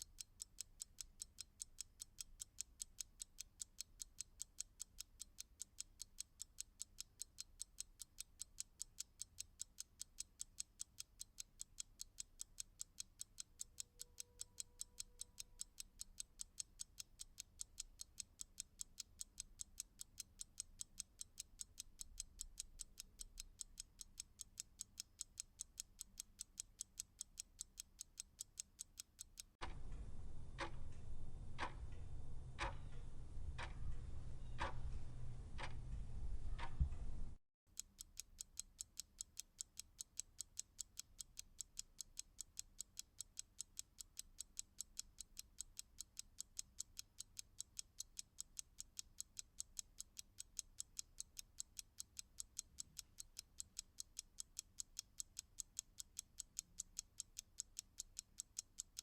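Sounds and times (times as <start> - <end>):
fast clock ticking: 0.0 - 29.6, 30.6 - 30.8, 31.6 - 31.9, 32.6 - 32.9, 33.6 - 33.9, 34.5 - 34.8, 35.6 - 35.8, 37.7 - 59.0
slow clock ticking: 0.0 - 37.1, 37.7 - 59.0.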